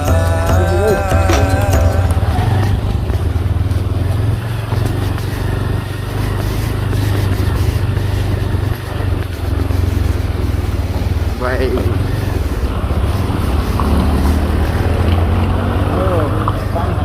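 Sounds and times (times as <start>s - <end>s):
road noise: 0.0s - 17.0s
vehicle engine low rumble: 0.0s - 17.0s.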